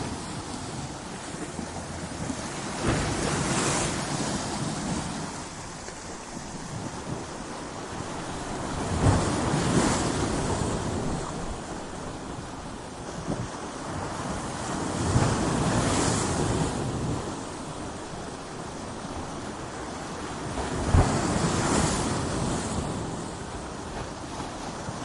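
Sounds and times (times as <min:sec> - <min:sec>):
ocean waves crashing: 0:00.0 - 0:25.0.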